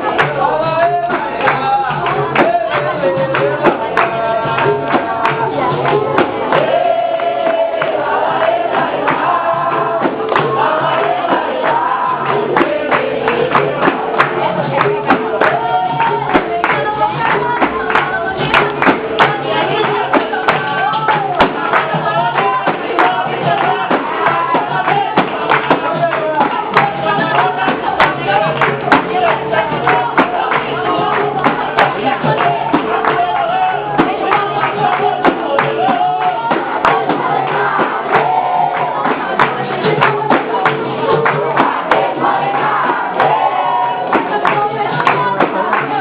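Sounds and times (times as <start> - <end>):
percussion strikes: 0.0 - 46.0
voices singing a chorus: 0.0 - 46.0.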